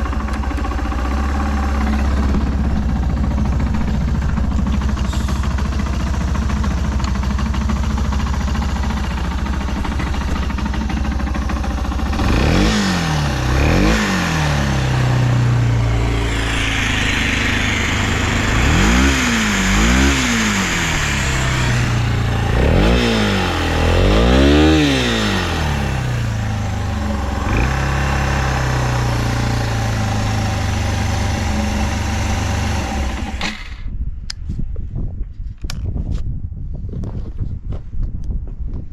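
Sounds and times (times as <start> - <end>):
motorcycle engine idling and revving: 0.0 - 34.5.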